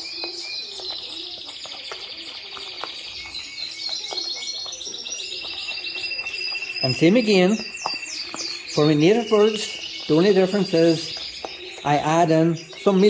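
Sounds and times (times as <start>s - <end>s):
songbirds trilling and chirping: 0.0s - 13.0s.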